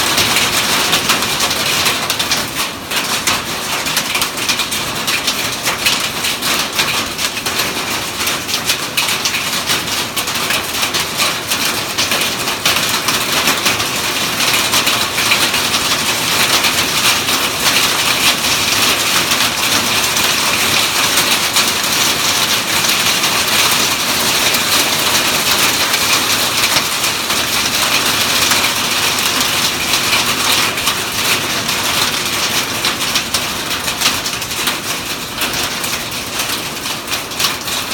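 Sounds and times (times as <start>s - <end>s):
hail and rain pelting: 0.0s - 37.9s.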